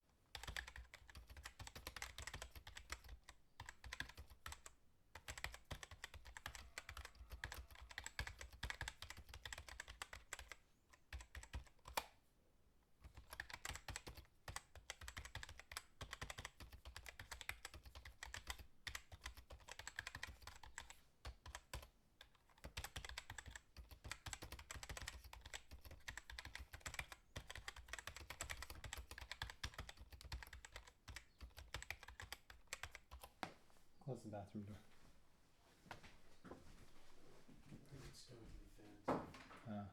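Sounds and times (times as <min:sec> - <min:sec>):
keyboard typing: 0:00.3 - 0:12.1, 0:13.0 - 0:33.4.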